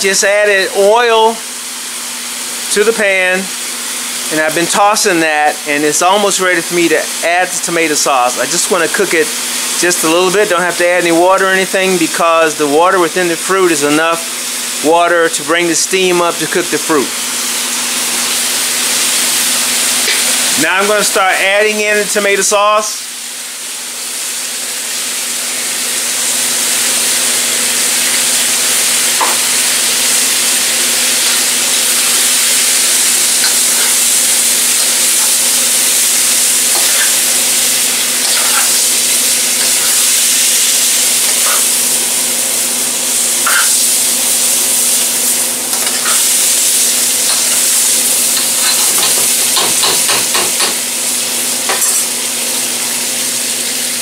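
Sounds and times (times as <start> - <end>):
vegetables sizzling in oil: 0.3 - 54.0.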